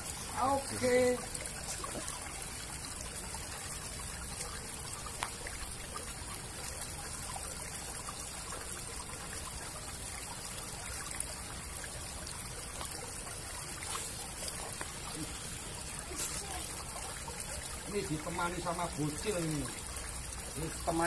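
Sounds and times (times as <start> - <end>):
water trickling through drain: 0.0 - 21.0.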